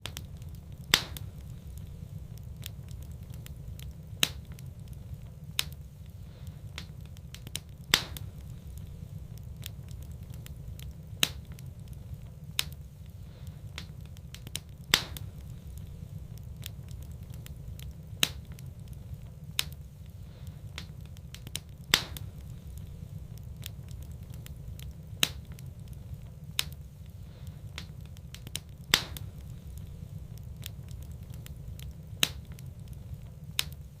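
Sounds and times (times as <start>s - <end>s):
low fire rumble: 0.0s - 34.0s
wood fire crackling and popping: 0.0s - 34.0s.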